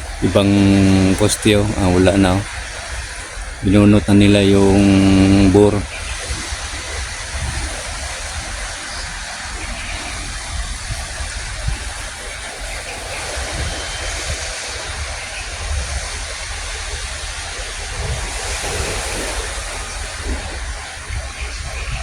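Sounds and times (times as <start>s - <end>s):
steady rushing noise: 0.0s - 22.0s
wind buffeting microphone: 0.0s - 22.0s.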